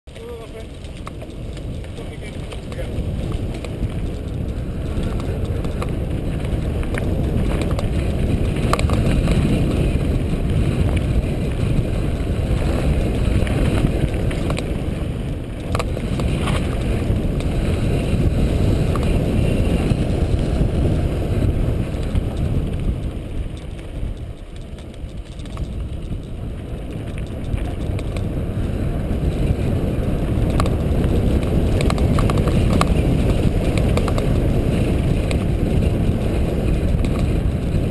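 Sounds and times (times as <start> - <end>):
bicycle tyres rumbling on dirt: 0.1 - 37.9
bike clicks and knocks: 0.1 - 37.9
wind rushing over microphone: 0.1 - 37.9.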